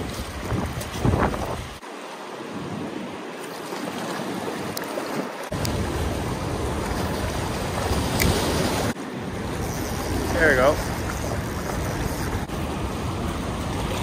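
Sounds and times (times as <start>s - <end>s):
wind rumbling on microphone: 0.0s - 1.8s, 4.4s - 14.0s.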